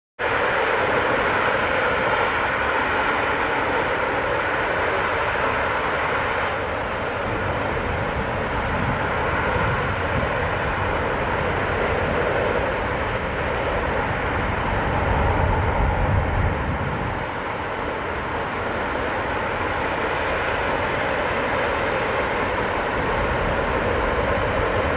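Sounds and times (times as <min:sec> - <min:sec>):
jet engines rushing and rumbling: 0:00.2 - 0:24.9.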